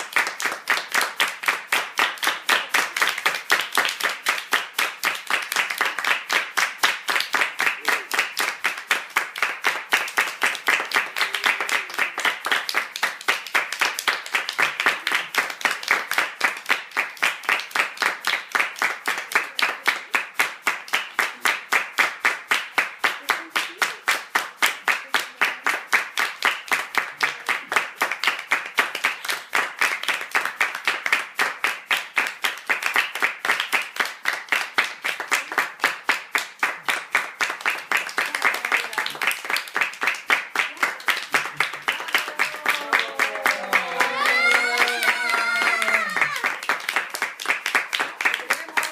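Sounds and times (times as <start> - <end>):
people clapping in rhythm: 0.0 - 48.9.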